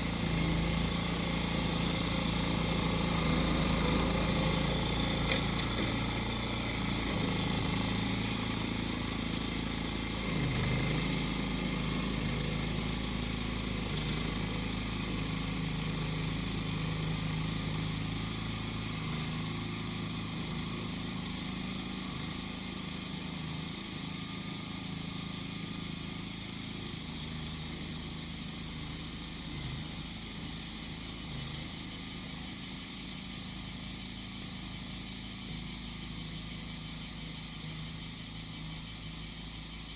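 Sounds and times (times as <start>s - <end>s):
cicadas singing: 0.0s - 39.9s
lawn mower engine running: 0.0s - 39.9s.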